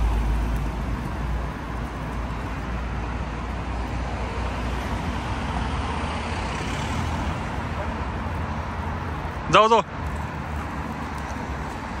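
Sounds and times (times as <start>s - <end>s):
road traffic rumble and hiss: 0.0s - 12.0s.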